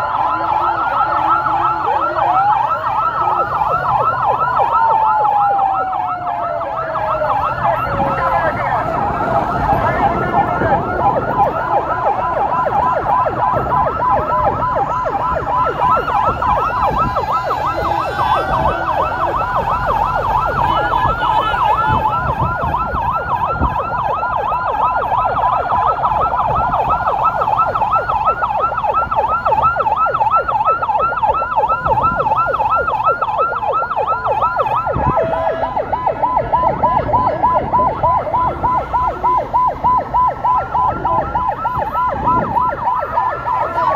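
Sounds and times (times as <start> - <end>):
rumble of traffic: 0.0 - 43.9
vehicle sirens yelping: 0.0 - 43.9.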